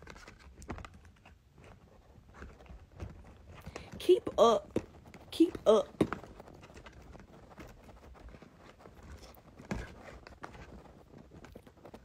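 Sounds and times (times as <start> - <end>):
rustling and handling noise: 0.0 - 12.0.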